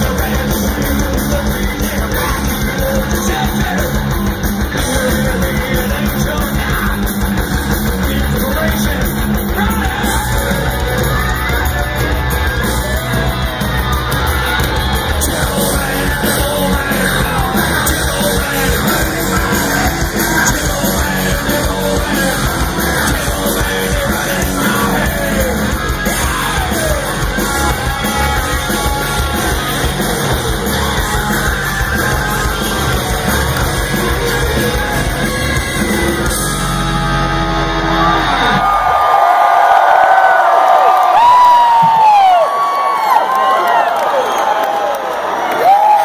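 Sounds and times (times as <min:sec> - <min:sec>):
pounding drums: 0:00.0 - 0:37.1
distorted guitars: 0:00.0 - 0:39.2.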